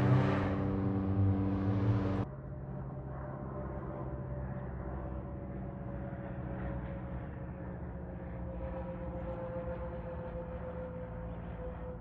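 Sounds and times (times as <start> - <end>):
propeller plane droning overhead: 0.0 - 12.0.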